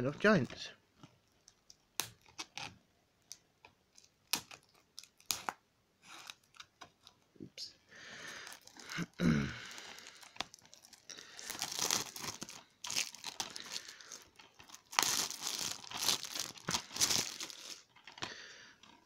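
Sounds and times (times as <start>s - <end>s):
cellophane wrap crinkling: 0.2s - 7.3s, 8.2s - 19.0s.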